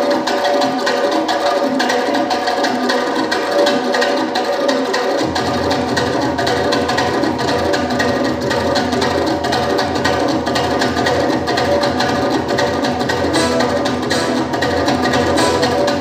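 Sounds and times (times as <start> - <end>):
fast folk dance music: 0.0 - 16.0.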